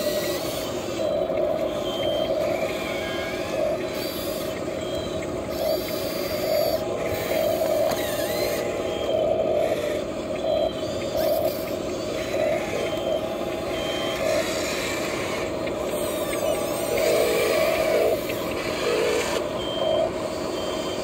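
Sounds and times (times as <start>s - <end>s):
toy excavator motors whining: 0.0s - 21.0s.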